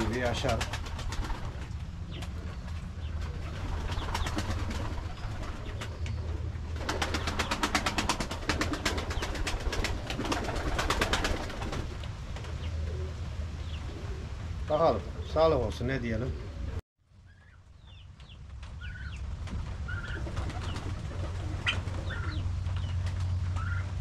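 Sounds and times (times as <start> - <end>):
pigeons cooing: 0.0 - 16.8, 19.8 - 24.0.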